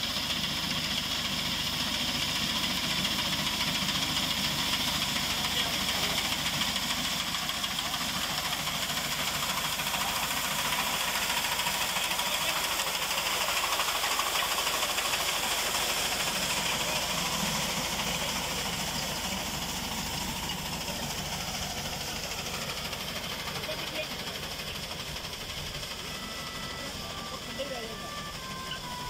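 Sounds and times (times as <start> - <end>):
tractor engine running: 0.0 - 29.0
reaper cutting wheat: 1.8 - 26.1.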